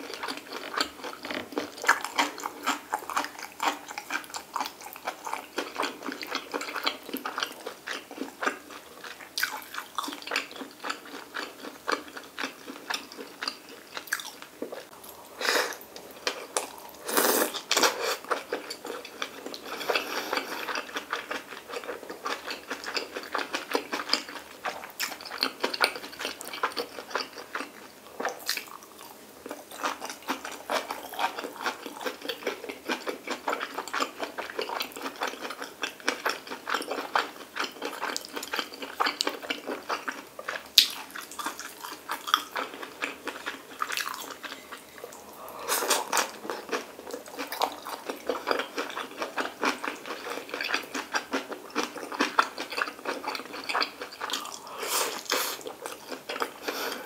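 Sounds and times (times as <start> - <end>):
person chewing wet food: 0.0 - 57.0.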